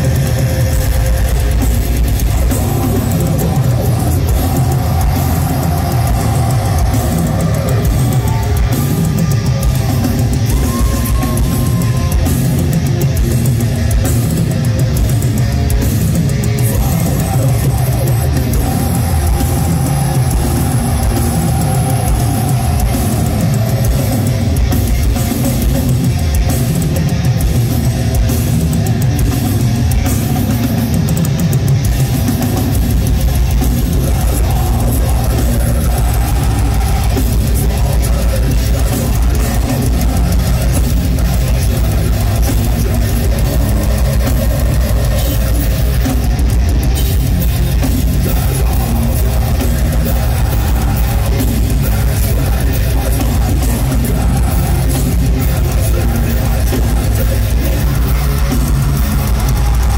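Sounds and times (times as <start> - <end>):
distorted electric guitars: 0.0 - 59.9
drum kit: 0.0 - 59.9.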